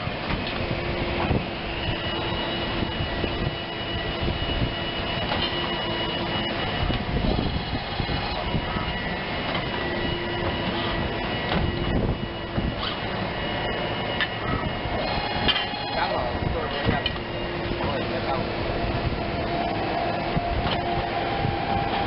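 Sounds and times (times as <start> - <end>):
high machine whining tones: 0.0 - 22.0
tube bending machine humming: 0.0 - 22.0.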